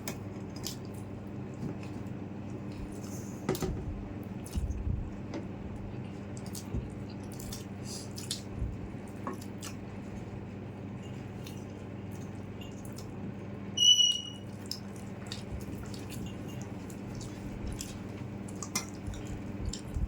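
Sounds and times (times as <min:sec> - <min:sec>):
faint steady hum: 0:00.0 - 0:20.0
wet chewing and eating: 0:00.0 - 0:20.0.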